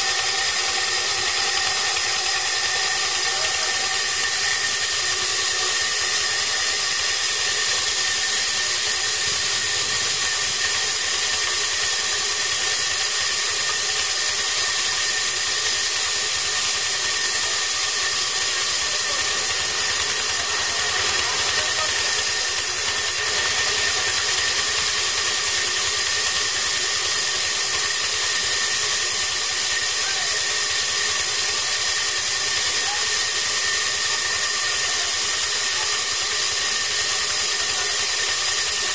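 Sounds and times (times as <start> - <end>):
band saw running: 0.0 - 38.9.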